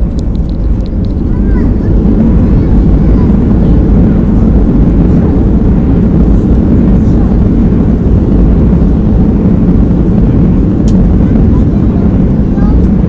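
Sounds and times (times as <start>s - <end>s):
low roar of jet engines: 0.0s - 13.0s.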